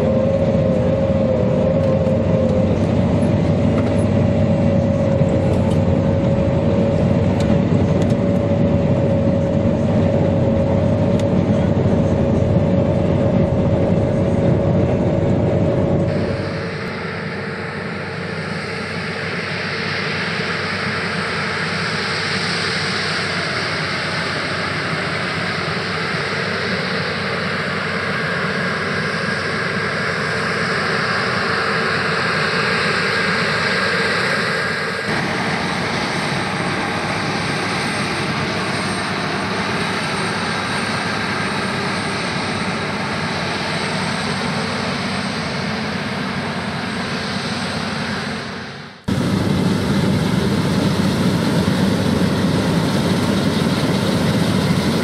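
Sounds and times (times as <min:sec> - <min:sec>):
combine harvester droning: 0:00.0 - 0:55.0
high machinery whine: 0:00.0 - 0:55.0.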